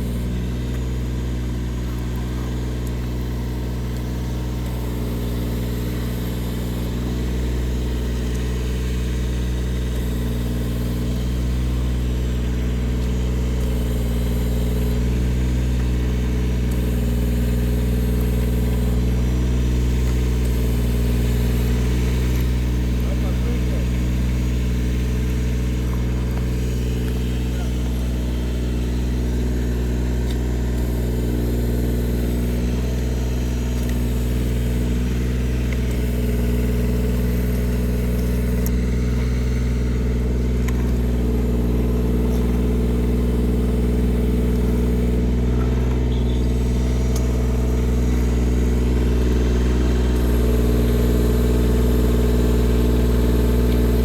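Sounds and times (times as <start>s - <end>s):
machine engine running: 0.0s - 54.0s.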